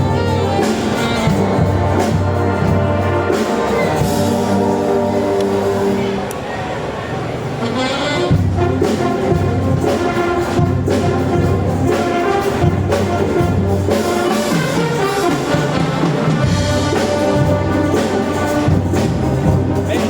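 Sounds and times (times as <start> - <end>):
percussion hits: 0.0 - 6.2, 7.6 - 20.0
brass band playing: 0.0 - 20.0.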